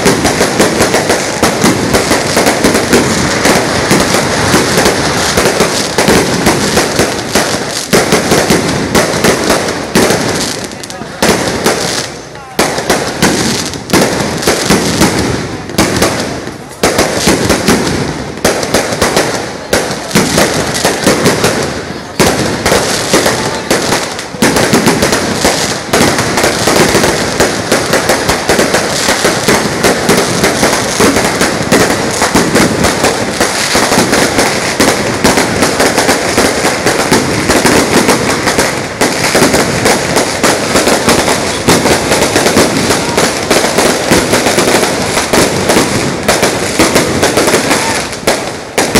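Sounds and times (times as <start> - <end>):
firecrackers crackling: 0.0 - 48.9.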